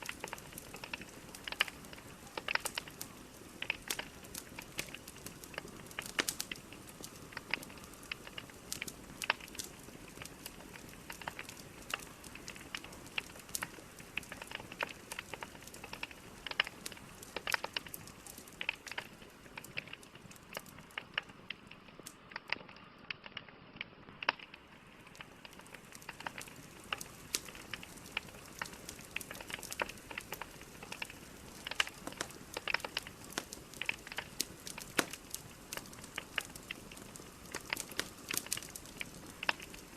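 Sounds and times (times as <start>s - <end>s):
hiss of flames: 0.0s - 22.5s, 24.1s - 39.9s
fire crackling and popping: 0.0s - 39.9s.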